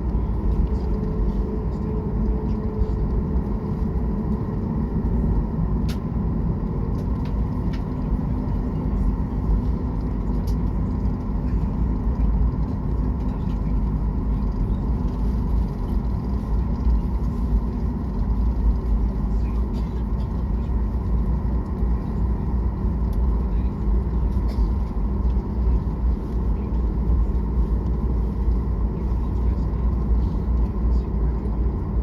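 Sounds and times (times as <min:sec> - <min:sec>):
jet engine and cabin air rumble: 0:00.0 - 0:32.0.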